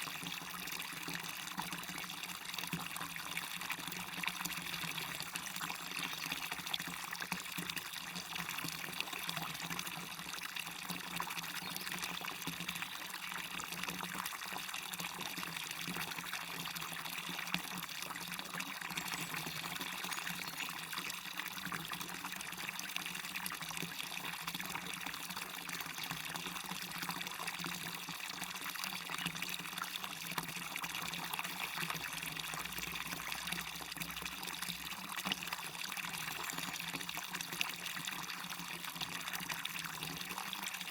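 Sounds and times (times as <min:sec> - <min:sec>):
small waterfall splashing: 0:00.0 - 0:40.9.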